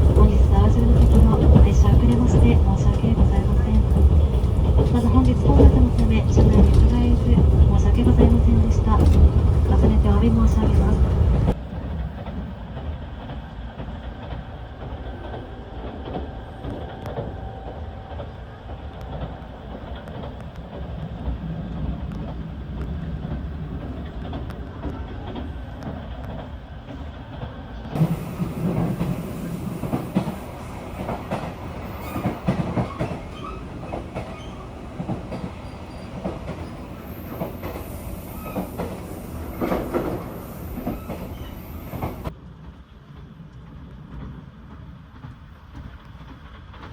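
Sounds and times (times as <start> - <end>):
rail clatter and wheel knocks: 0.0 - 15.4, 19.1 - 42.3
train carriage rumble: 0.0 - 46.9.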